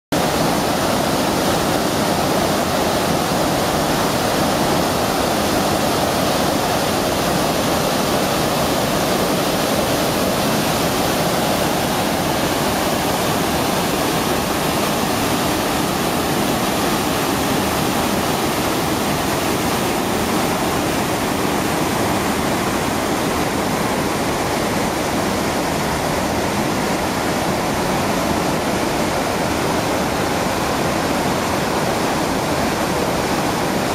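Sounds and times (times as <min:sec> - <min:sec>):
waterfall and river rapids rushing: 0:00.1 - 0:33.9.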